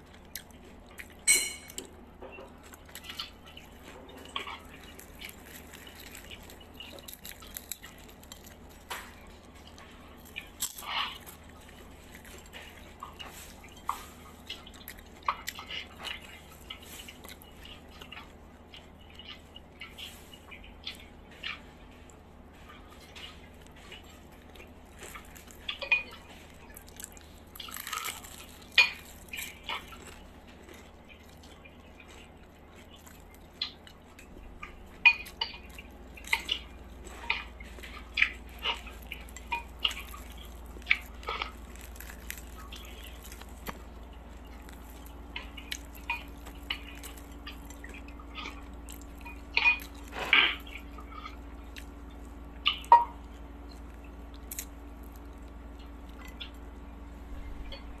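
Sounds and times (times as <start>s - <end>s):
crunchy fried chicken tearing: 0.0s - 58.0s.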